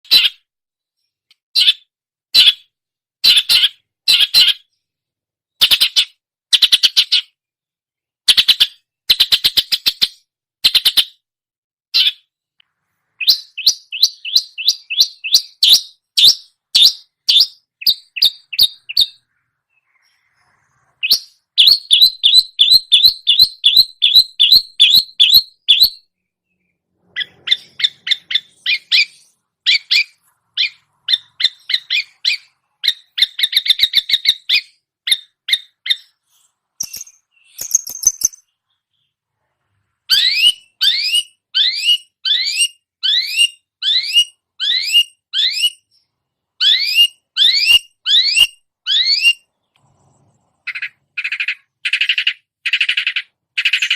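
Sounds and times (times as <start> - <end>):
bird chattering song: 0.0 - 4.9, 5.5 - 7.4, 8.3 - 11.2, 12.0 - 12.3, 13.2 - 39.4, 40.1 - 50.0, 50.6 - 53.9.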